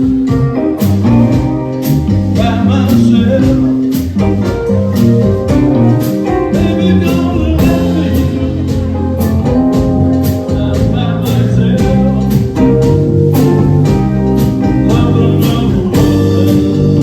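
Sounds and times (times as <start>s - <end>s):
guitar: 0.0s - 17.0s
steady drum beat: 0.0s - 17.0s.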